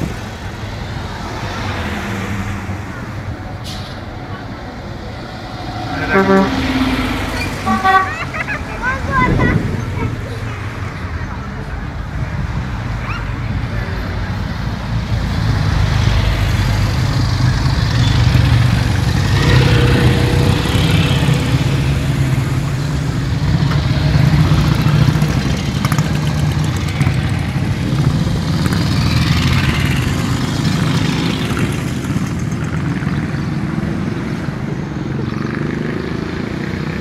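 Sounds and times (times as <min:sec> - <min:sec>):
motorcycles riding past: 0:00.0 - 0:14.3, 0:15.0 - 0:37.0.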